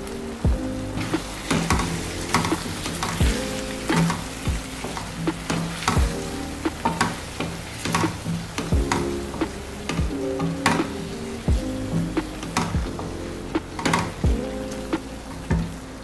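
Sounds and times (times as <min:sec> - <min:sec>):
stew sizzling: 0:00.0 - 0:16.0.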